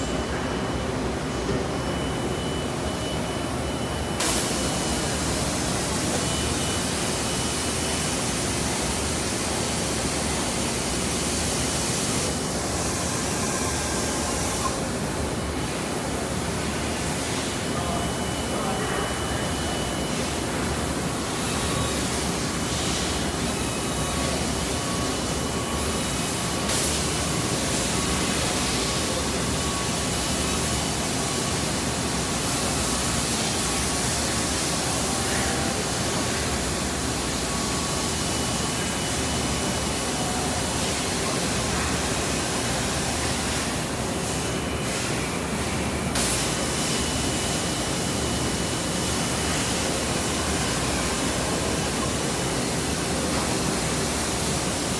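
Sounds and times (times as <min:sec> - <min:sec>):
lathe running with hiss and hum: 0:00.0 - 0:54.9.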